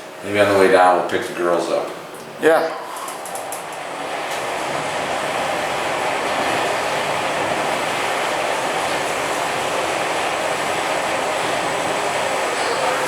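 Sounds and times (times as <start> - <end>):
elevator ride hum: 0.0 - 13.0.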